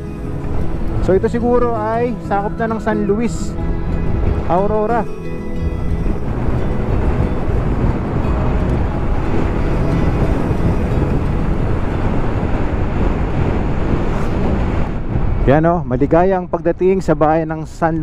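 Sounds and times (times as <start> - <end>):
motorcycle engine drone: 0.0 - 15.6
wind rush over microphone: 0.0 - 18.0.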